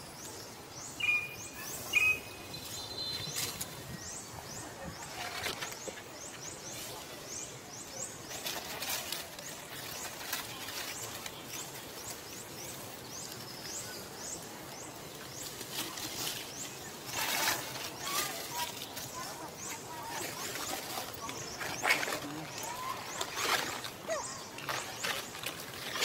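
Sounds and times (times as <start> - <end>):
dry leaves rustling: 1.0 - 26.0.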